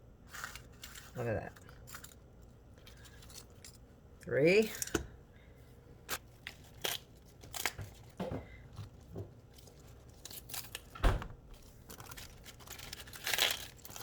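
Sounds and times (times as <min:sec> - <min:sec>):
kitchen crackles and rustles: 0:00.2 - 0:05.2, 0:06.0 - 0:14.0.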